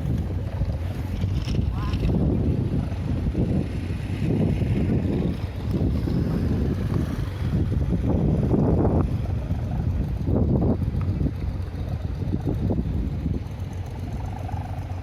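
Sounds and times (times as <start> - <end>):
vehicle running: 0.0 - 15.0
wind buffeting microphone: 0.0 - 15.0.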